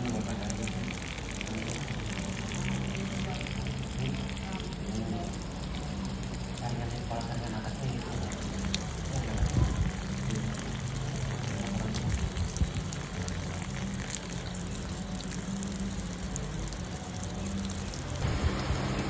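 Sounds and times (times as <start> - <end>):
light rain drops ticking: 0.0 - 19.0
steady low hum: 0.0 - 19.0.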